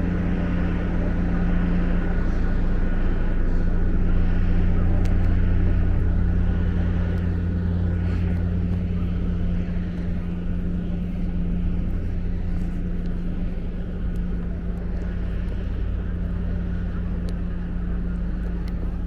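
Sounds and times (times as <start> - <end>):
low engine hum: 0.0 - 19.0
street noise: 0.0 - 19.0.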